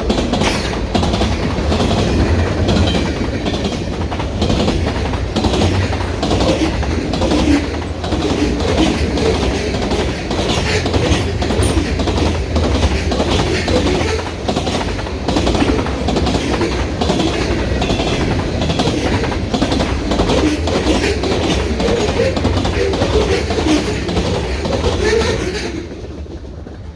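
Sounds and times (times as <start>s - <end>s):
freight train cars rolling past: 0.0s - 26.9s
wheels clacking over rails: 0.0s - 26.9s.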